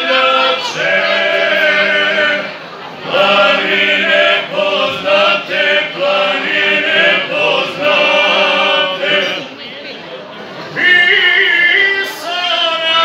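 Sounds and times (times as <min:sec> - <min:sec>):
men singing in harmony: 0:00.0 - 0:02.5, 0:03.1 - 0:09.5, 0:10.8 - 0:13.0.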